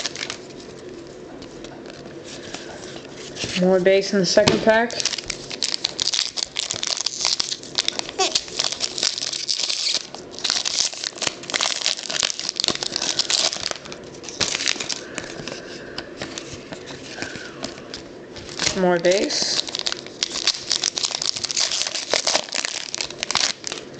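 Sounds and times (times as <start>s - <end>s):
foil wrappers crinkling: 0.0s - 3.7s, 4.8s - 23.9s.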